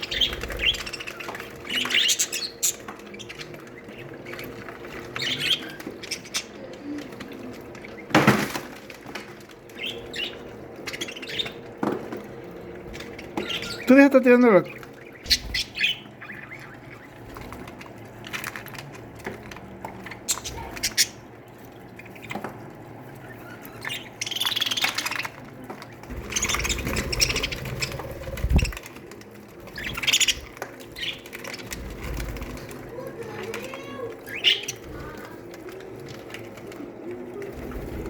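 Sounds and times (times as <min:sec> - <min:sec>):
budgerigars chirping and squawking: 0:00.0 - 0:36.4.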